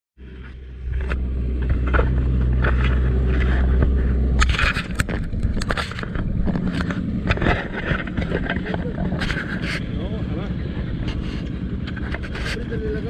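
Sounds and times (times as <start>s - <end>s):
outboard motor humming: 0.2s - 13.0s
water washing along hull: 0.3s - 13.0s
sharp knocks and scrapes: 0.4s - 10.2s, 10.9s - 12.8s.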